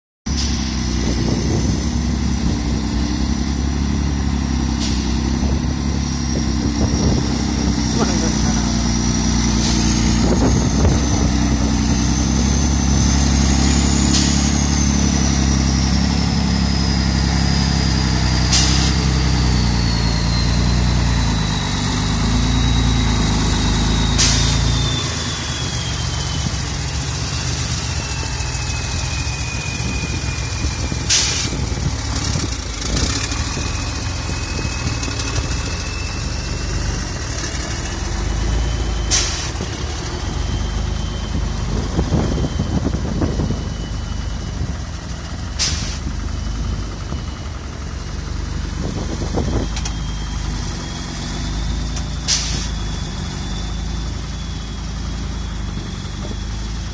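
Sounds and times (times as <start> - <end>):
truck diesel engine rumbling: 0.3 - 56.9.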